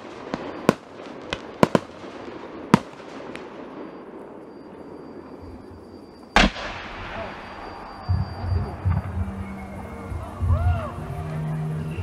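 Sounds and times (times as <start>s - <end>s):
deep firework boom: 0.0s - 11.1s
fireworks bangs: 0.0s - 11.3s.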